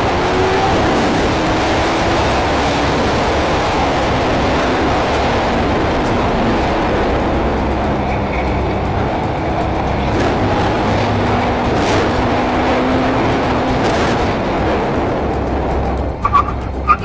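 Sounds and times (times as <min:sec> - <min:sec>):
motorcycle engine drone: 0:00.0 - 0:17.0
wind rush on microphone: 0:00.0 - 0:17.0.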